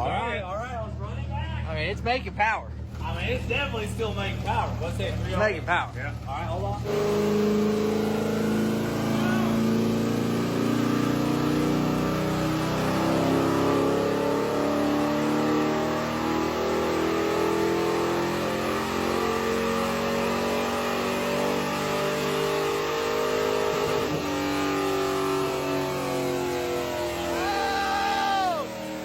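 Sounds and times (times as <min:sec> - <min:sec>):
car engine under load: 0:00.7 - 0:29.0.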